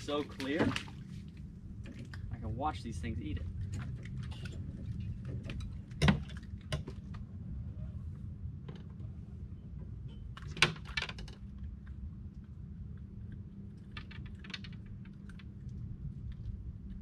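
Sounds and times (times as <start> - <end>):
low rumble: 0.0 - 10.6, 11.3 - 17.0.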